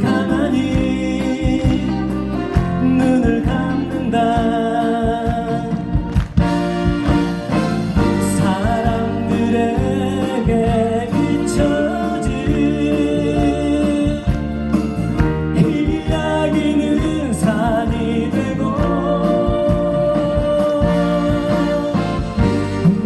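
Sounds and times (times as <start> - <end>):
band playing live: 0.0 - 23.0
people singing: 0.0 - 23.0.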